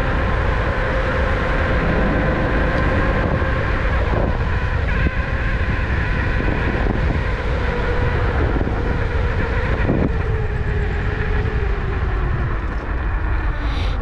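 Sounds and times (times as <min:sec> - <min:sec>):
motor whine: 0:00.0 - 0:14.0
vehicle rumble: 0:00.0 - 0:14.0
wind noise: 0:00.0 - 0:14.0.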